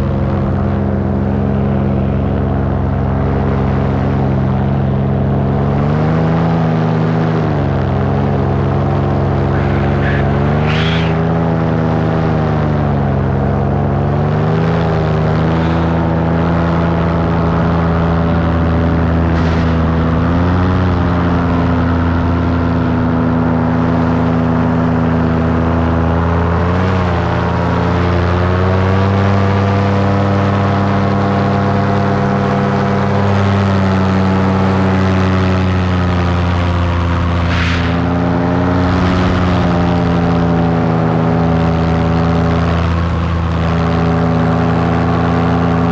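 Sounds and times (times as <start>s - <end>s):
paramotor engine and propeller: 0.0s - 45.9s.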